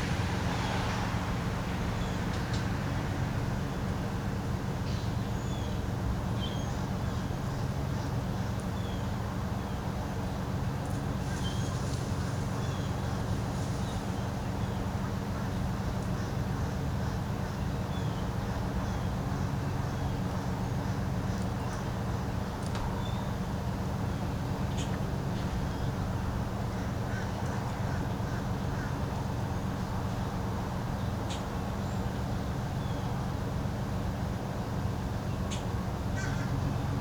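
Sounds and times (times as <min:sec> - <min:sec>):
small airplane engine drone: 0:00.0 - 0:37.0.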